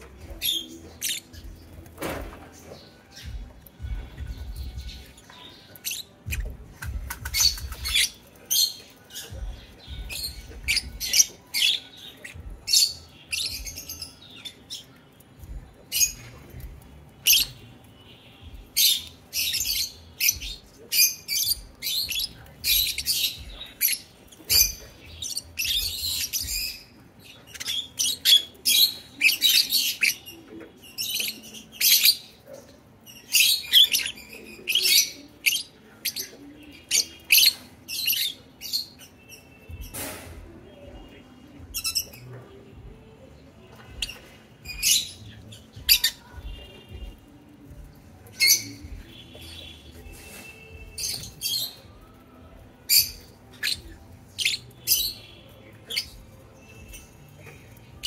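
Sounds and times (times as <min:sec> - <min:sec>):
lovebirds chirping and squawking: 0:00.0 - 0:58.0.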